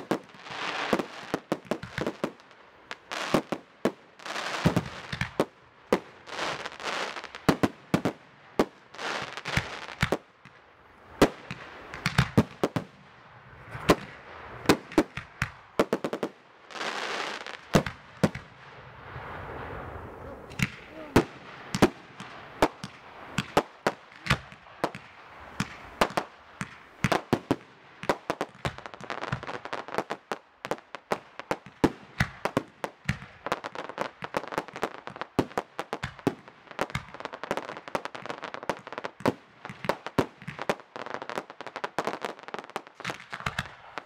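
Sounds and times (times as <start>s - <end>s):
fireworks bursting bangs: 0.0s - 44.0s.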